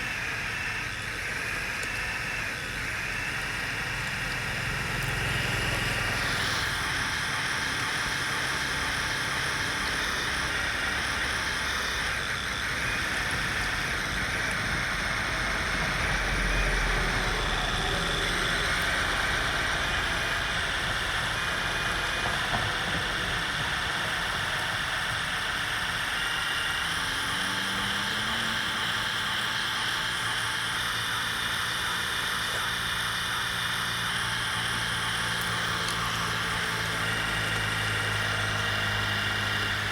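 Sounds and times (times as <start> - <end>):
toy vehicle motors whirring: 0.0 - 39.9.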